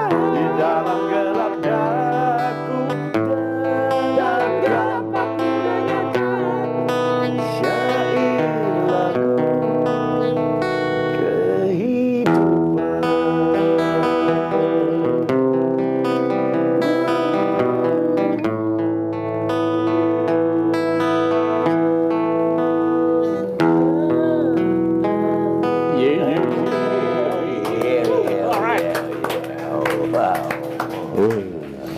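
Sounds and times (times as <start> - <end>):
man singing: 0.0 - 18.6, 23.2 - 30.4
acoustic guitar strummed chords: 0.0 - 31.9.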